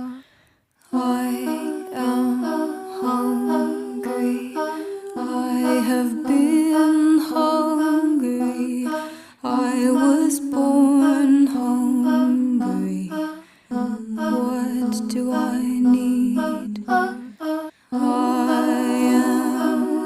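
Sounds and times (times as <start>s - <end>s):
soft hummed vocal melody: 0.9s - 20.0s.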